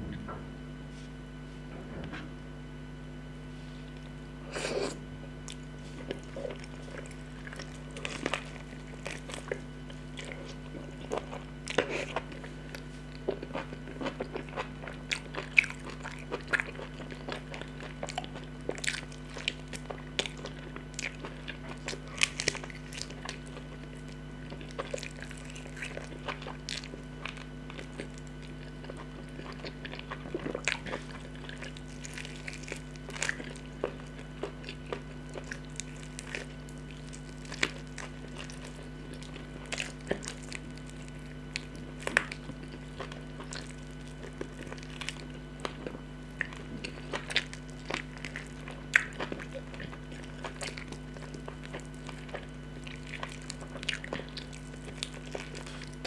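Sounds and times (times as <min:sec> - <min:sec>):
biting and chewing meat: 0:03.8 - 0:56.0.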